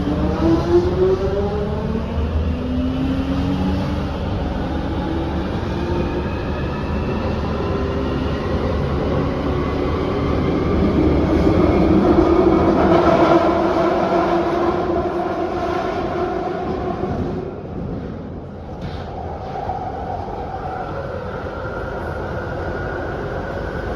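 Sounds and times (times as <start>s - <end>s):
train rumble in tunnel: 0.0s - 23.9s.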